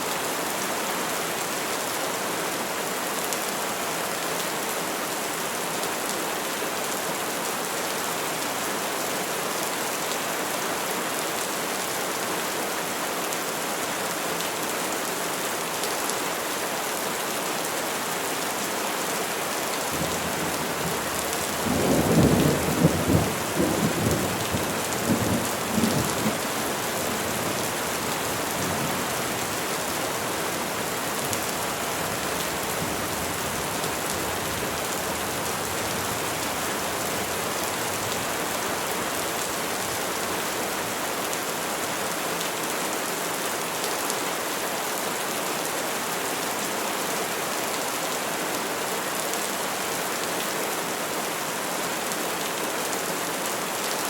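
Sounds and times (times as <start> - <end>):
rain falling on trees: 0.0 - 54.0.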